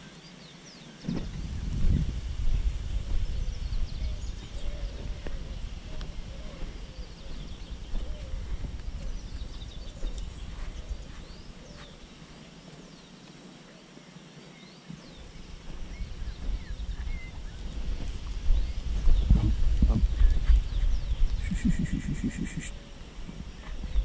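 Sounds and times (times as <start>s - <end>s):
small birds chirping: 0.0s - 24.0s
low rumble on microphone: 1.0s - 12.9s, 15.0s - 24.0s.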